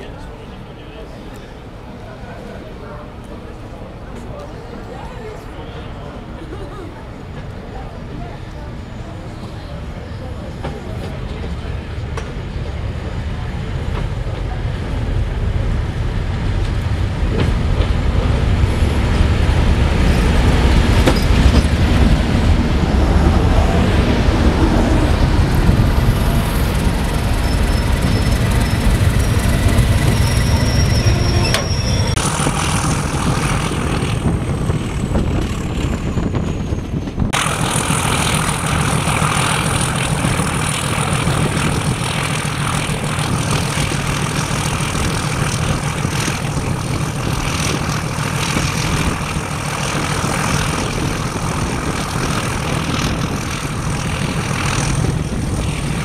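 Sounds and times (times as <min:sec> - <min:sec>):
diesel locomotive rumble: 0:00.0 - 0:56.0
train wheels on rails: 0:00.0 - 0:56.0.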